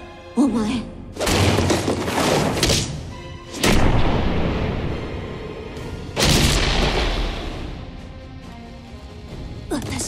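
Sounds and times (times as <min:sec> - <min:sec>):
dramatic background music: 0:00.0 - 0:10.0.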